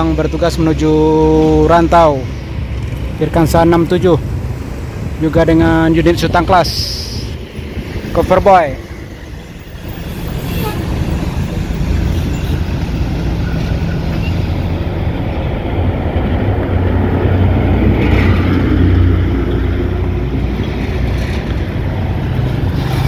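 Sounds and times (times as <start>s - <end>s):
coach diesel engine passing: 0.0s - 23.0s
road traffic passing: 0.0s - 23.0s.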